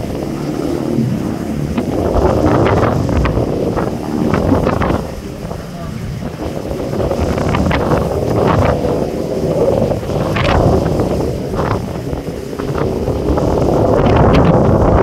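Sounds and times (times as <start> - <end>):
sea water rushing along hull: 0.0 - 15.0
water splashes: 0.0 - 15.0
wind buffeting microphone: 0.0 - 15.0.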